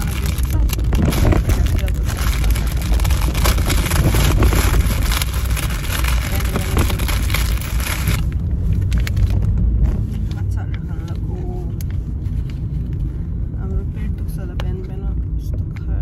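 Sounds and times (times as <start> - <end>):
car interior road rumble: 0.0 - 16.0.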